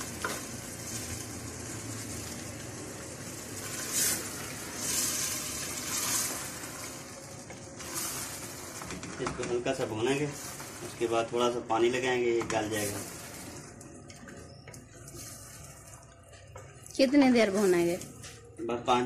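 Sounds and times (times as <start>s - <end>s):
wooden spoon stirring: 0.0s - 17.1s
beans sizzling in oil: 0.0s - 18.2s.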